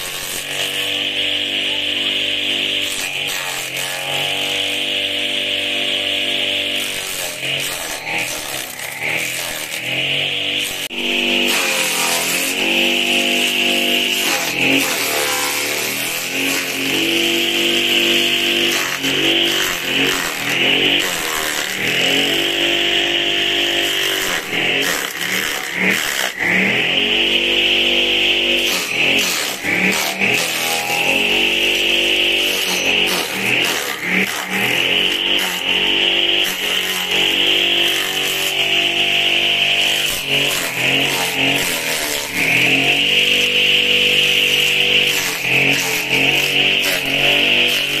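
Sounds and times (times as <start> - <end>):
grass chopper shredding: 0.0 - 48.0.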